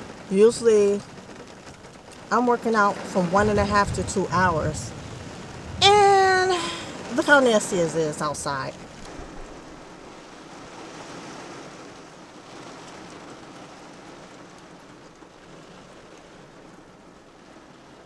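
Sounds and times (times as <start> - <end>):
rain falling on a car: 0.0 - 18.0.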